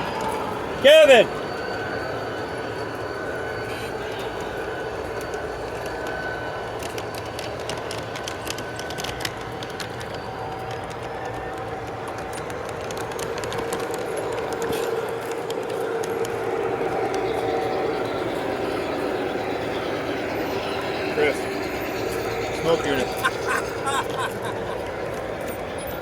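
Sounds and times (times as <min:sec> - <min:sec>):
model train motor hum: 0:00.0 - 0:26.0.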